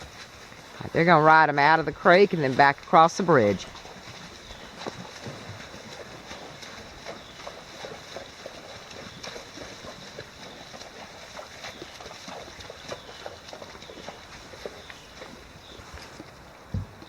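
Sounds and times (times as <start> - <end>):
hooves splashing on stones: 0.0 - 17.0
running water: 0.0 - 17.0.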